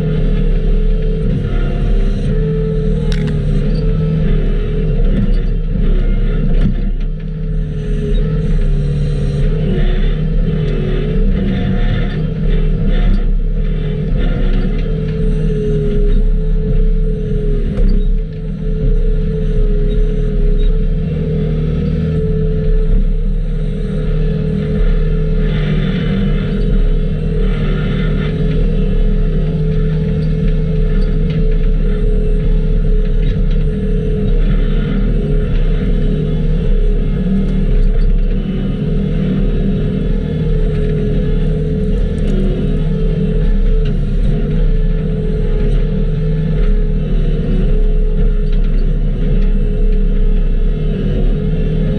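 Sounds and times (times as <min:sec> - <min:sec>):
skid steer engine under load: 0:00.0 - 0:51.9.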